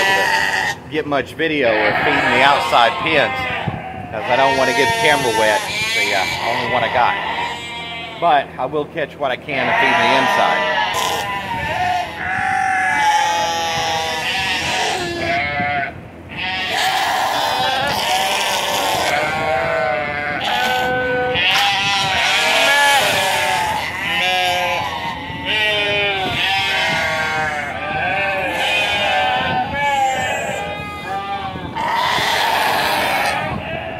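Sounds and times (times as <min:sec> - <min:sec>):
sheep bleating: 0:00.0 - 0:00.8, 0:01.6 - 0:08.4, 0:09.5 - 0:33.9.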